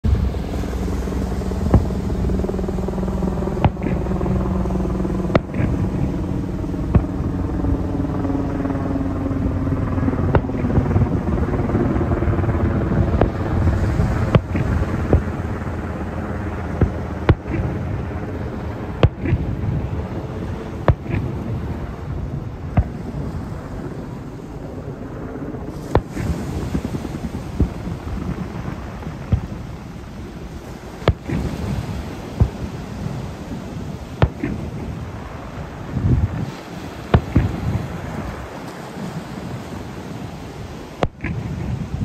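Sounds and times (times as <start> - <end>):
low engine-like drone: 0.0 - 42.0.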